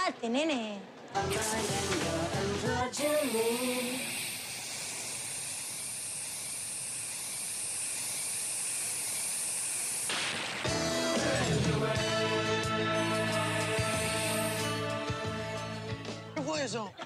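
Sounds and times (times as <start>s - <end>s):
firecracker fuse hissing: 1.2s - 15.9s.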